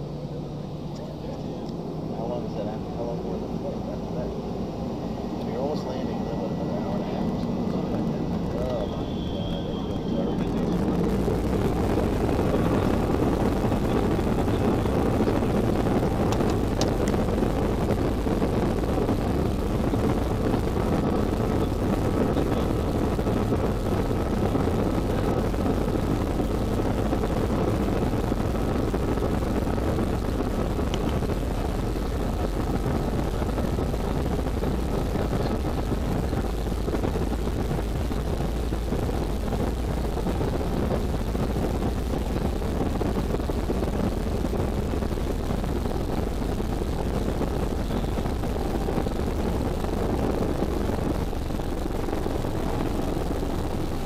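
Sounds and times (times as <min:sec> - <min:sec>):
faint steady whine: 0:00.0 - 0:54.0
jet engines steady rush: 0:00.0 - 0:54.0.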